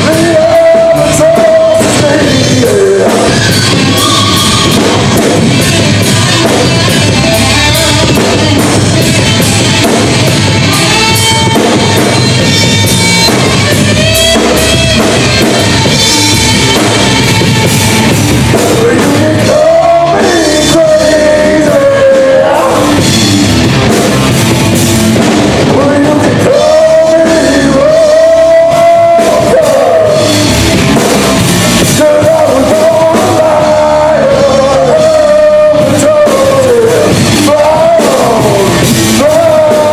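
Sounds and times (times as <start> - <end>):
man singing: 0.0 - 23.3, 25.6 - 30.6, 31.7 - 39.9
live rock band playing: 0.0 - 39.9.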